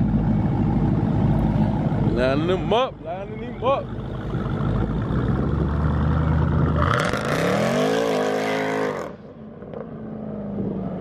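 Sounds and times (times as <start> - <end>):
car engine revving: 0.4 - 9.9.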